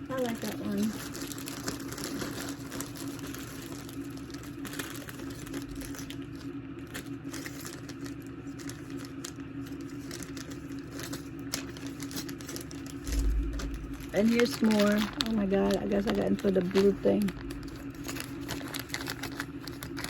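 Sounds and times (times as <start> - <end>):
steady low hum: 0.0 - 20.0
plastic packaging crinkling: 0.1 - 20.0.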